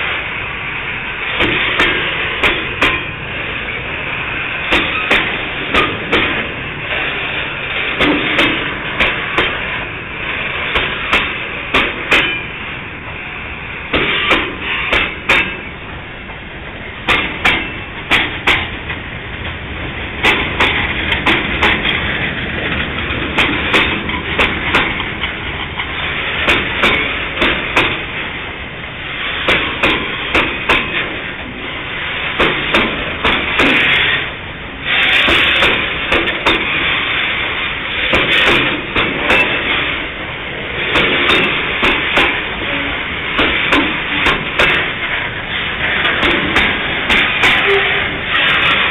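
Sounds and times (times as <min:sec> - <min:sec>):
train rumble and hiss: 0:00.0 - 0:48.9
train wheels clacking over rail joints: 0:00.0 - 0:48.9.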